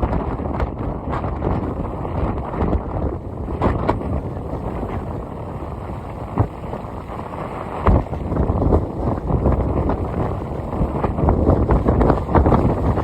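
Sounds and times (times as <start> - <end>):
heavy surf: 0.0 - 13.0
wind buffeting microphone: 0.0 - 13.0.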